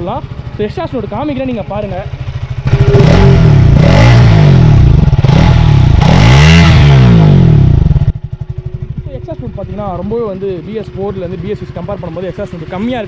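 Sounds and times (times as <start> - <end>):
motorcycle engine idling: 0.0 - 13.0
motorcycle engine revving: 0.0 - 13.0.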